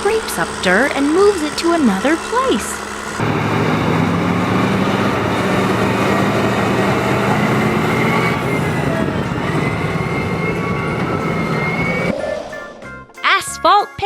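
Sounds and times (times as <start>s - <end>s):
diesel engine droning: 0.0s - 12.9s.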